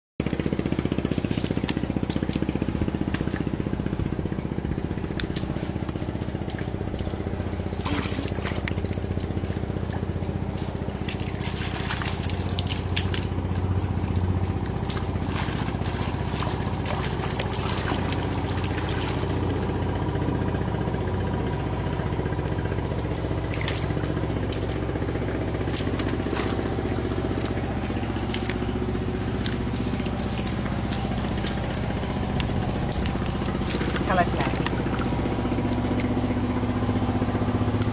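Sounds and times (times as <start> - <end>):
low motor drone: 0.2 - 37.9
hands digging through wet mud: 0.3 - 19.9, 23.1 - 36.9.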